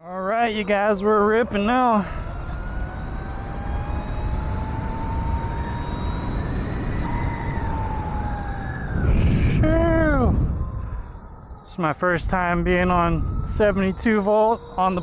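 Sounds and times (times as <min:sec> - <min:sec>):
electric motor whining: 0:00.0 - 0:11.7, 0:12.3 - 0:15.0
wind rumble on microphone: 0:00.3 - 0:15.0.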